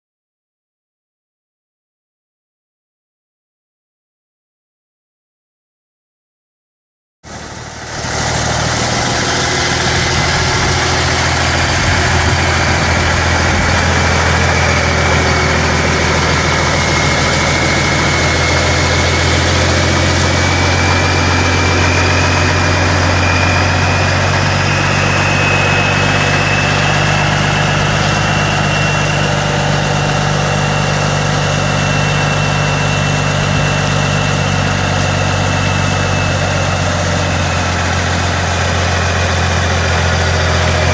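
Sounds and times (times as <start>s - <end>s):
diesel truck engine idling: 7.3s - 40.9s
thin high whine: 7.3s - 40.9s.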